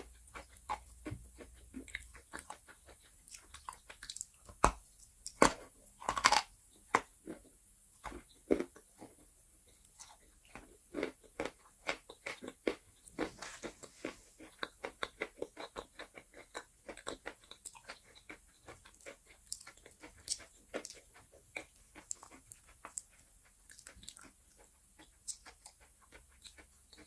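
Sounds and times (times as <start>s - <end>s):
chalk crunching being chewed: 0.0s - 27.0s.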